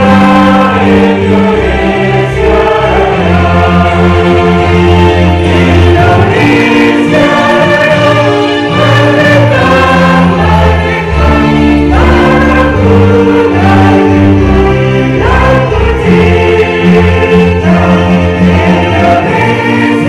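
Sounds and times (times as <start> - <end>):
choir singing a slow hymn: 0.0 - 20.0
musical accompaniment: 0.0 - 20.0.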